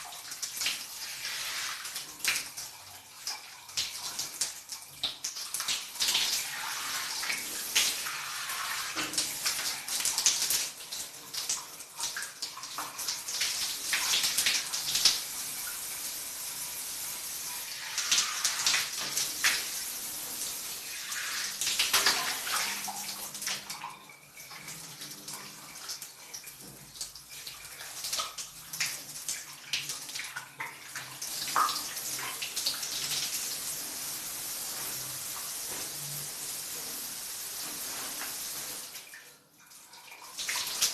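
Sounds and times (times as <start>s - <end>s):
shower water splashing: 0.0s - 40.9s.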